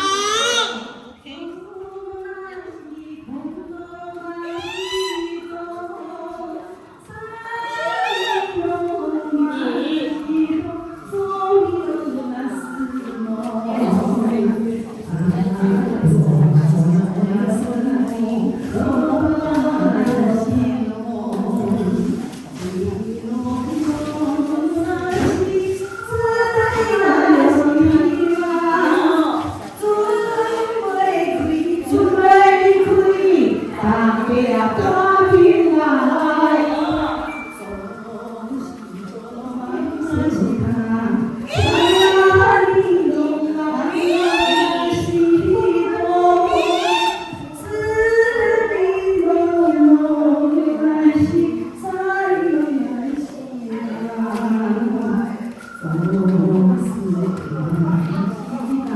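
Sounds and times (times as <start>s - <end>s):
women singing in unison: 0.0s - 58.9s.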